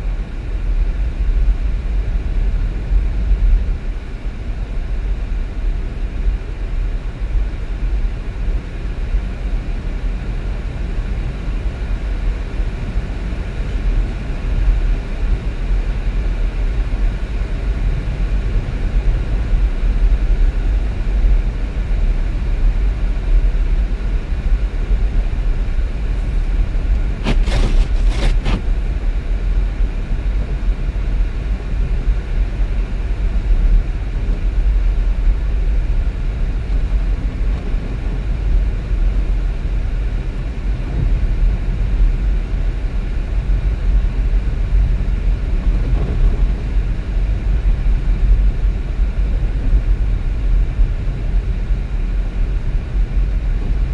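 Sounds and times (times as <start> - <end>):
vehicle road and engine rumble: 0.0 - 53.9.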